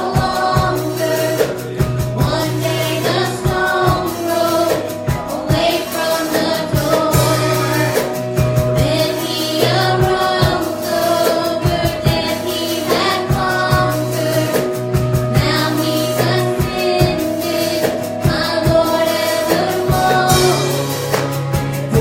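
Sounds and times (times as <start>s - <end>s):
band playing: 0.0s - 22.0s
regular drum beat: 0.0s - 22.0s
voices singing a hymn: 0.0s - 22.0s.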